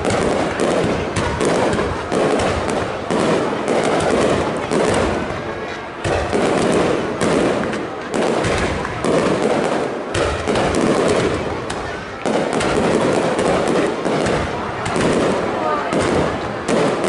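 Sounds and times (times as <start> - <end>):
fireworks bursting bangs: 0.0 - 17.0
fireworks crackle and rumble: 0.0 - 17.0.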